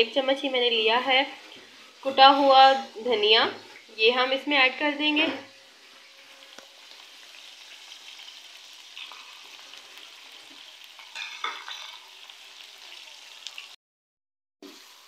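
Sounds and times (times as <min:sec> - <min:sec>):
chicken frying in oil: 0:00.0 - 0:13.8, 0:14.6 - 0:15.0.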